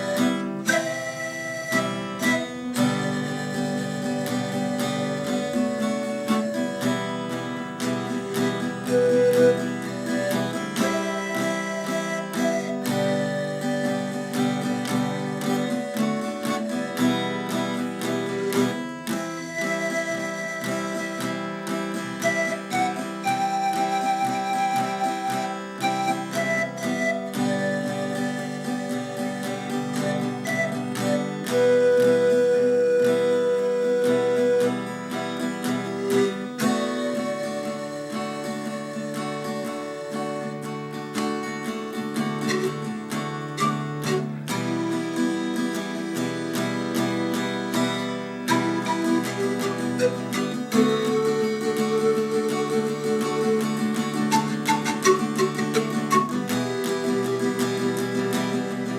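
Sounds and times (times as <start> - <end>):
plucked acoustic guitar: 0.0 - 58.9.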